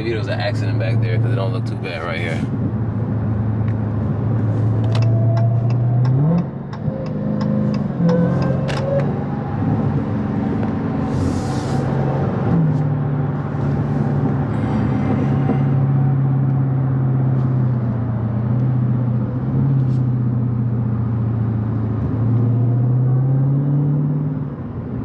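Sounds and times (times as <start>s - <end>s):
car engine humming: 0.0s - 25.0s.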